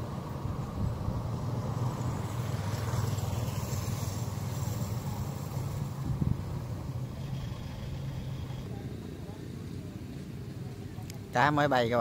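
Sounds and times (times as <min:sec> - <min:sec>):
combine harvester diesel engine: 0:00.0 - 0:11.5.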